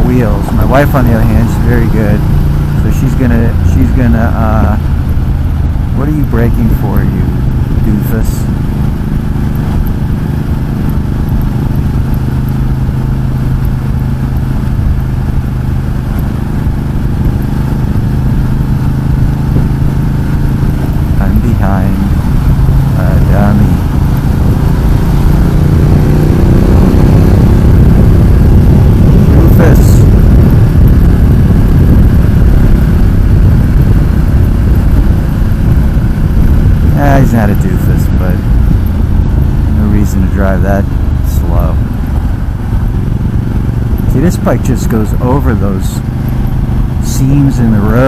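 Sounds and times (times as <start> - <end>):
motorcycle engine running: 0.0 - 48.0
road and wind noise: 0.0 - 48.0.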